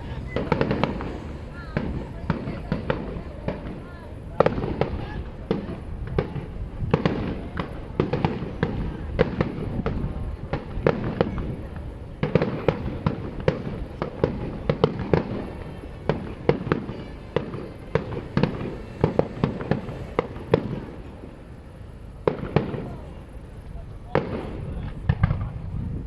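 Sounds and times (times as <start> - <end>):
fireworks bursts and bangs: 0.0 - 26.0.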